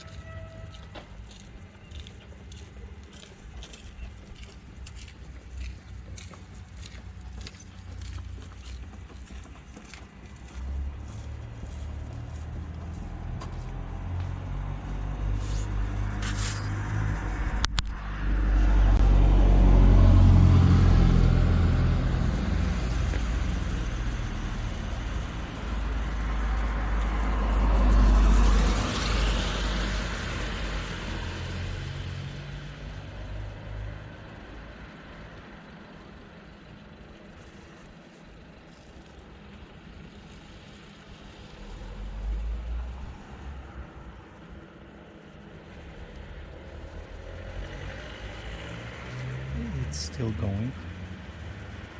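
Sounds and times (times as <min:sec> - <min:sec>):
vehicles passing with engine rumble: 0:00.0 - 0:51.9.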